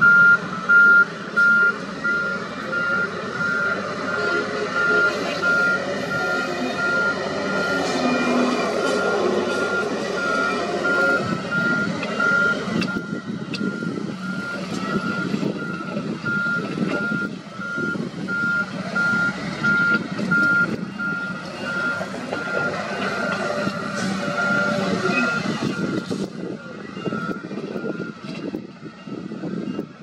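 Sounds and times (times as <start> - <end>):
reversing alarm beeping: 0.0 - 28.2
machinery engines rumbling: 0.0 - 30.0.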